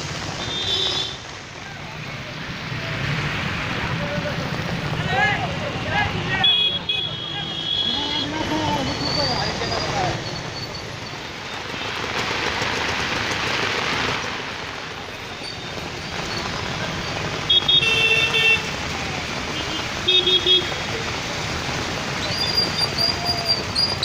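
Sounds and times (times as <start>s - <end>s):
rain: 0.0s - 24.0s
street traffic: 0.0s - 24.0s.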